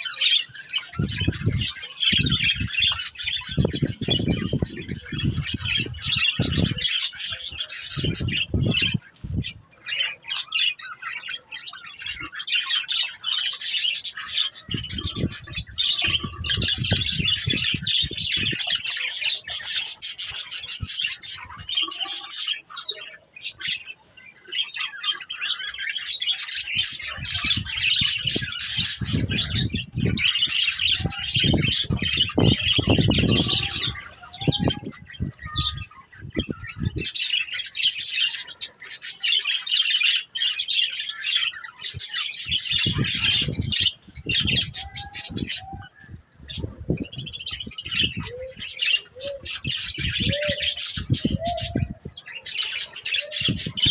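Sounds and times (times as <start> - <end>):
budgerigars chattering: 0.0 - 45.7, 46.5 - 53.9.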